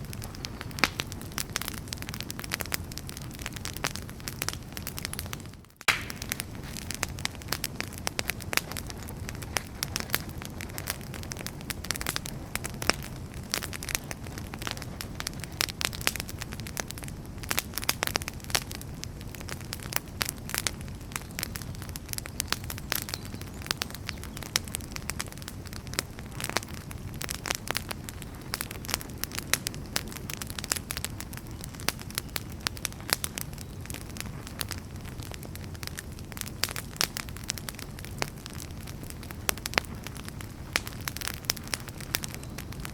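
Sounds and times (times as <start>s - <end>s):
logs crackling and popping: 0.0s - 42.9s
low rumble of flames: 0.0s - 42.9s.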